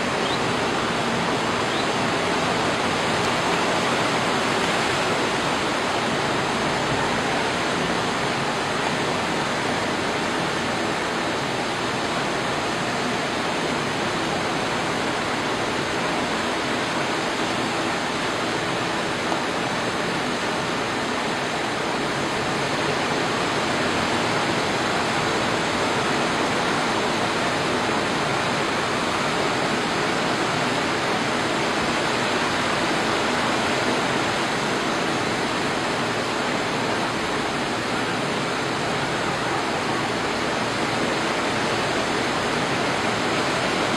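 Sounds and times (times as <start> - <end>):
rushing water: 0.0 - 43.9.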